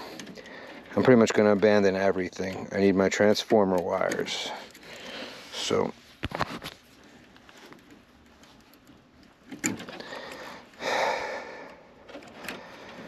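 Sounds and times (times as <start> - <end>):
clicks and handling of wiring: 0.0 - 10.8, 11.7 - 13.0.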